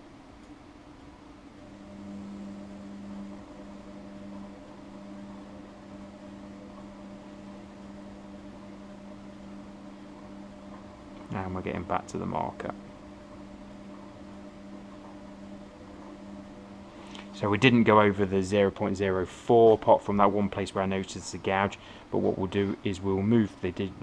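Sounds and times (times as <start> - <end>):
heater humming: 0.0 - 24.0.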